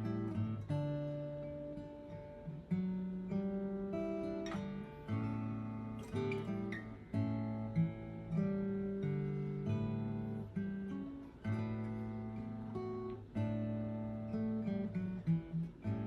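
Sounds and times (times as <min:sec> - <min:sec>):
acoustic guitar chords strummed: 0:00.0 - 0:16.0.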